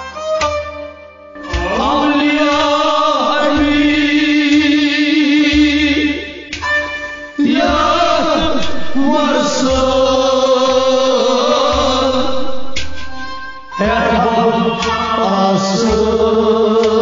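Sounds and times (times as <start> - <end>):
chanted devotional singing: 1.5 - 6.6, 7.4 - 17.0
low thumps: 1.5 - 17.0
steady drone: 1.6 - 17.0.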